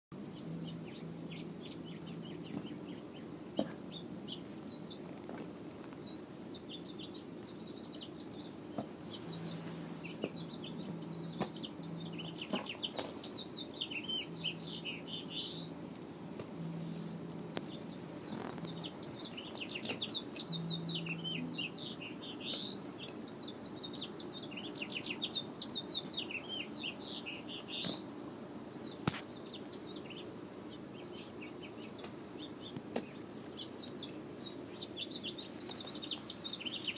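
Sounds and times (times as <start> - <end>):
birds chirping: 0.1 - 36.9
steady low hum: 0.2 - 36.9.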